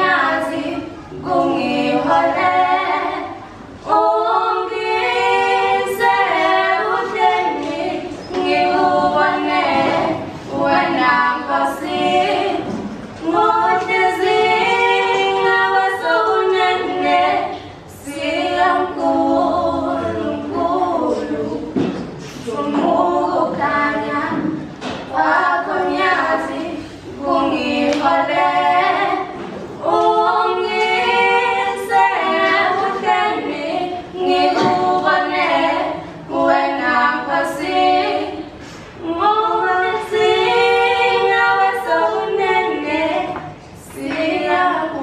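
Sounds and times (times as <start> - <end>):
choir singing a hymn: 0.0 - 45.0.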